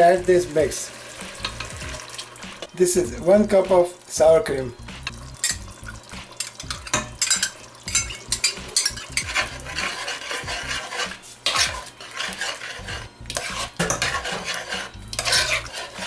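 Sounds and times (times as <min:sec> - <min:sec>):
sauce sizzling: 0:00.0 - 0:16.0
spoon scraping and knocking pan: 0:01.2 - 0:03.4, 0:04.8 - 0:16.0.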